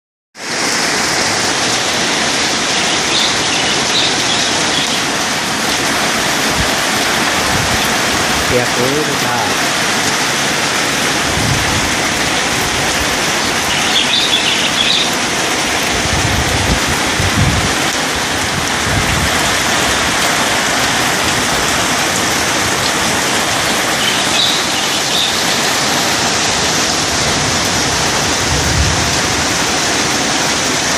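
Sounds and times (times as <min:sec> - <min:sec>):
heavy rain hissing: 0:00.4 - 0:30.9.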